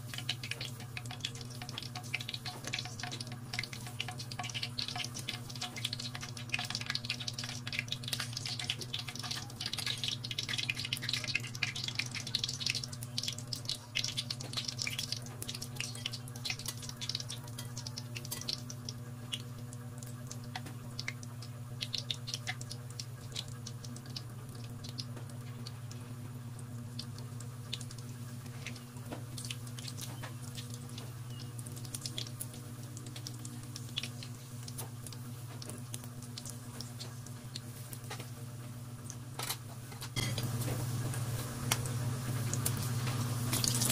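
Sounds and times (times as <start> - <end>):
bread sizzling in hot oil: 0.0 - 43.9
steady low hum: 0.0 - 43.9.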